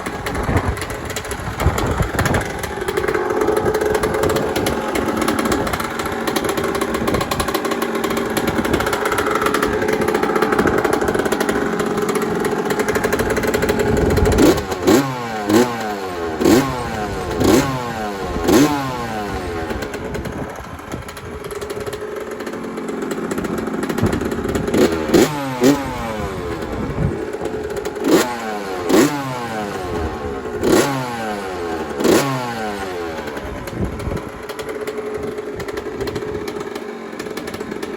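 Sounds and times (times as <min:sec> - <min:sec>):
two-stroke engine revving: 0:00.0 - 0:37.9.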